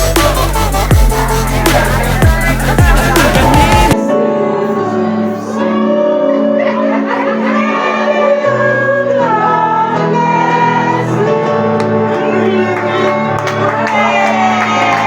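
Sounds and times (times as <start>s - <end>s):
music with held vocal notes: 0.0s - 15.0s.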